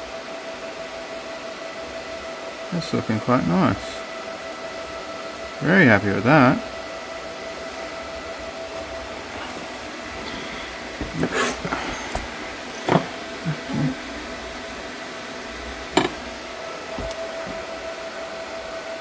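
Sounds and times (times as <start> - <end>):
machine hum with whine: 0.0 - 19.0.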